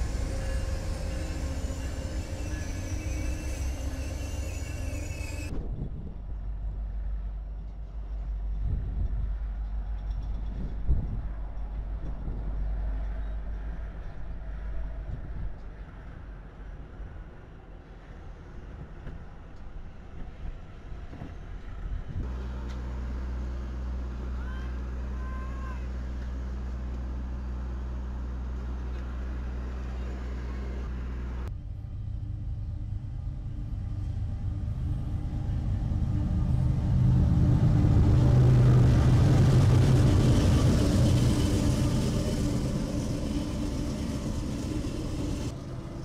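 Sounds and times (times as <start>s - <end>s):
low hum: 0.0s - 17.2s, 20.8s - 46.0s
diesel locomotive engine rumble: 0.0s - 46.0s.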